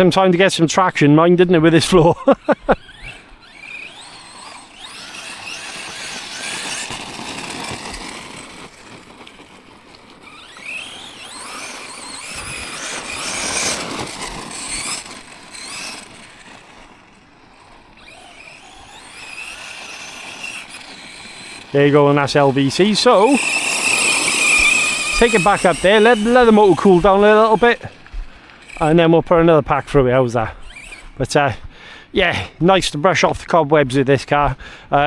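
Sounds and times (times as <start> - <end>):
rc truck motor whining: 0.0 - 33.2
tyres scrabbling over rocky ground: 1.6 - 31.4.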